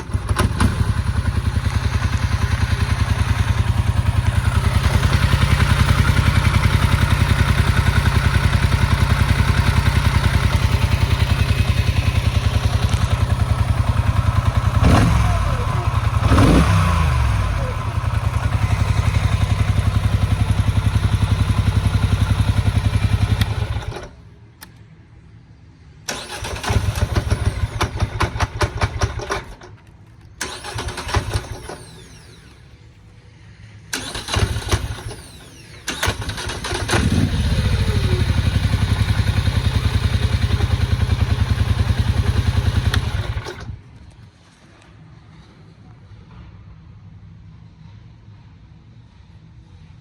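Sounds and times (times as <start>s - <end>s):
engine cranking: 0.0s - 24.2s, 26.1s - 32.8s, 33.9s - 44.2s
engine running: 0.0s - 24.7s, 26.1s - 45.5s.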